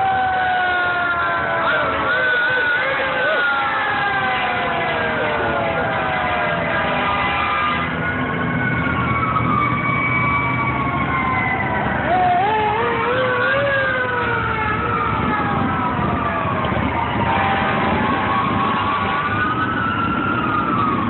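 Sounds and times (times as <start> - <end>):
fire engine sirens wailing: 0.0 - 21.0
truck engines humming: 0.0 - 21.0.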